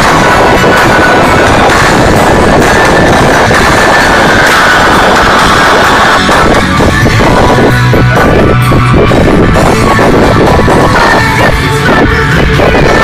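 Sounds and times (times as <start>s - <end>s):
distorted live rock band: 0.0s - 13.0s.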